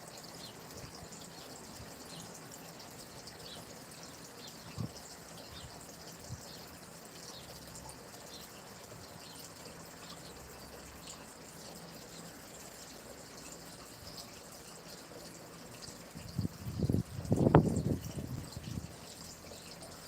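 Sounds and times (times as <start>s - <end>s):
stream of running water: 0.0s - 20.0s.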